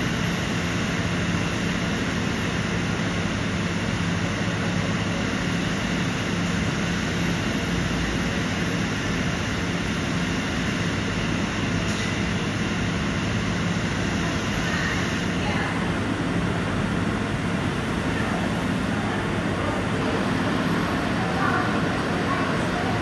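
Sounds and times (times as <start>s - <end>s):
train running rumble and hum: 0.0s - 23.0s.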